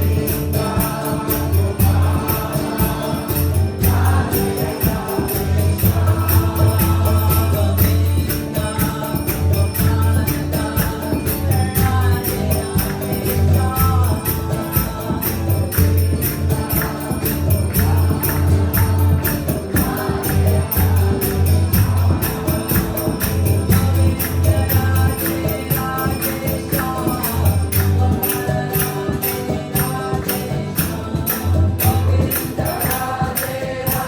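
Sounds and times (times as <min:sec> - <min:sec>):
jingling percussion beat: 0:00.0 - 0:34.0
voices singing a chant: 0:00.0 - 0:34.0.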